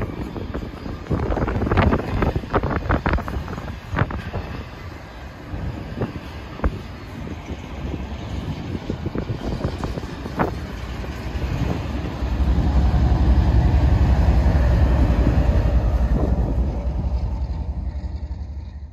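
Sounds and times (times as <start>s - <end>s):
freight train rumbling past: 0.0s - 18.9s.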